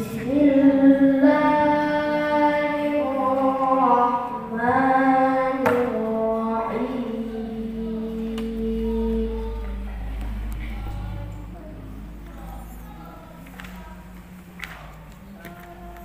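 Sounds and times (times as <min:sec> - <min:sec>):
person reciting melodically: 0:00.0 - 0:16.0.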